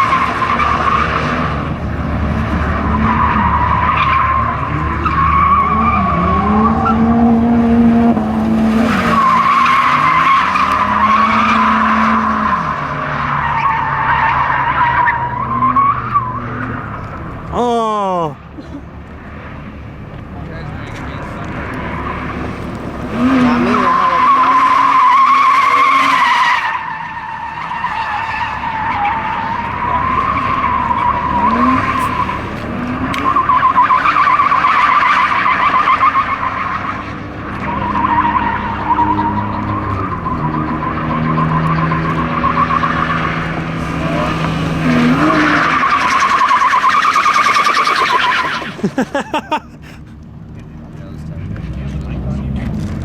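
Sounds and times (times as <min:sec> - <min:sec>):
car engine revving: 0:00.0 - 0:17.5, 0:19.2 - 0:49.0.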